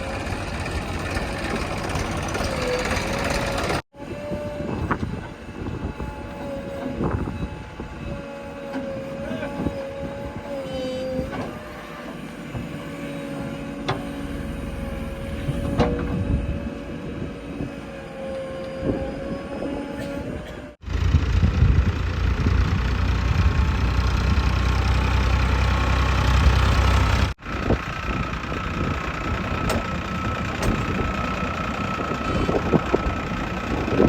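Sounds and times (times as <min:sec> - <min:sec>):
backhoe loader engine whining: 0:00.0 - 0:34.0.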